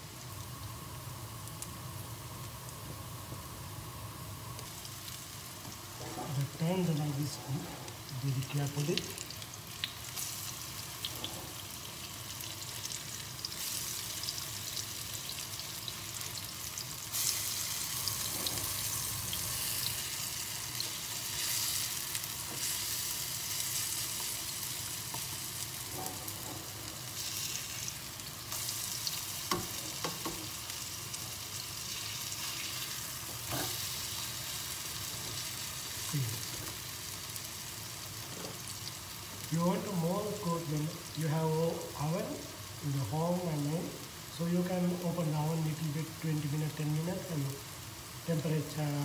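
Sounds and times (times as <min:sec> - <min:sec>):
fritters sizzling in oil: 0:00.0 - 0:49.0.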